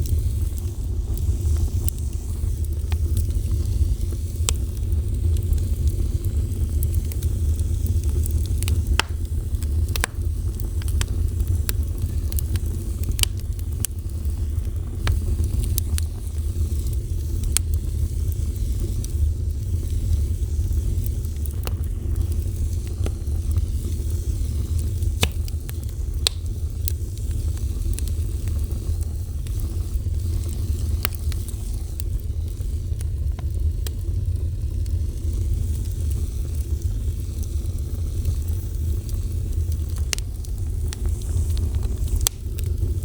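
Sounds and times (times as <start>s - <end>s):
fire crackles and pops: 0.0s - 43.0s
fire rumbling: 0.0s - 43.0s.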